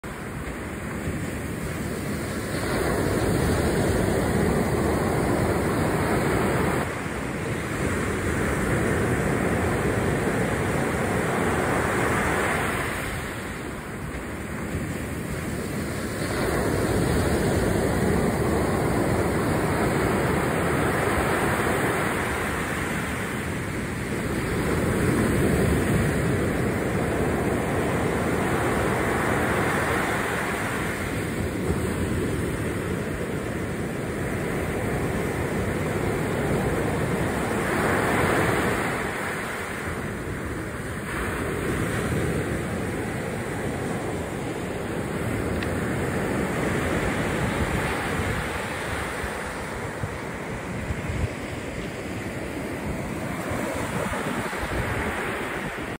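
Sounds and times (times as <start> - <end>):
ocean surf breaking on beach: 0.0 - 55.9.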